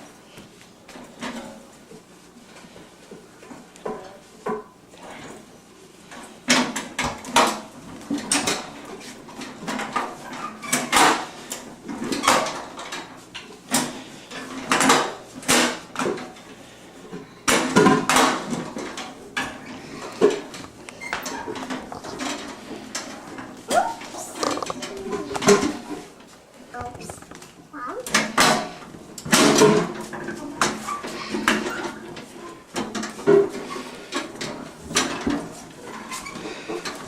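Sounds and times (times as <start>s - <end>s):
hard objects knocking and clattering: 6.4s - 16.4s, 17.1s - 37.0s.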